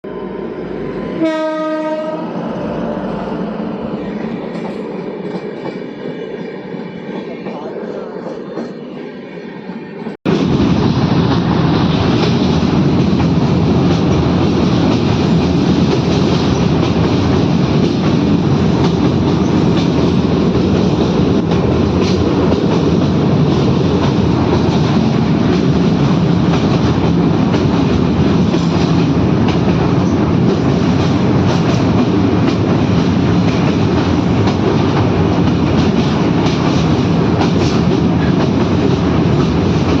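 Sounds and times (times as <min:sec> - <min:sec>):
train rumbling on rails: 0:00.0 - 0:40.0.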